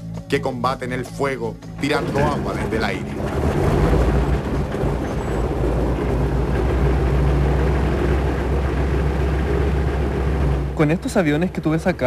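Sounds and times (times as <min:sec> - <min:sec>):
plane piston engine running: 0:02.0 - 0:12.0.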